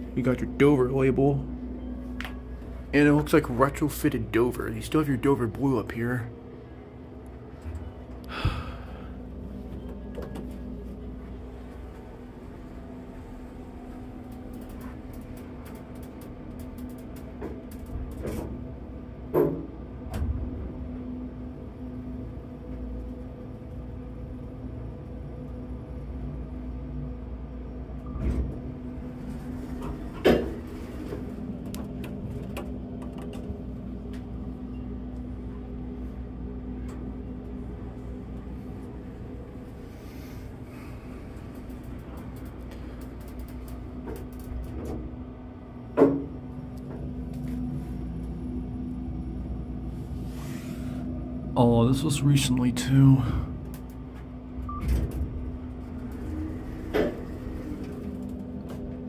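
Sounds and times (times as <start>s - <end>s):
low hum: 0.0s - 59.0s.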